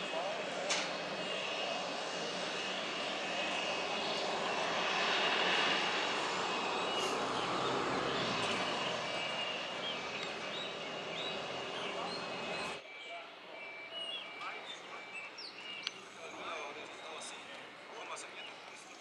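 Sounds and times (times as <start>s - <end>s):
jet engines rushing and whining: 0.0s - 18.9s.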